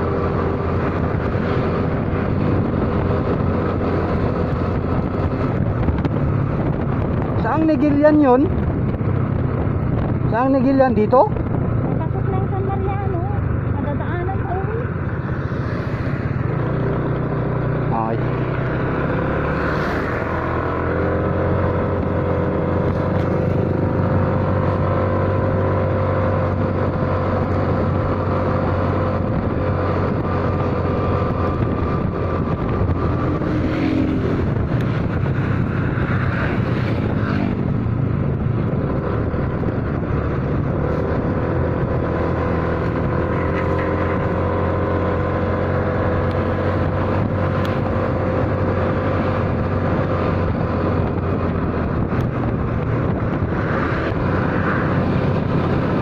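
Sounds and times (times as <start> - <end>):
motorcycle engine cruising: 0.0 - 56.0
wind: 0.0 - 56.0.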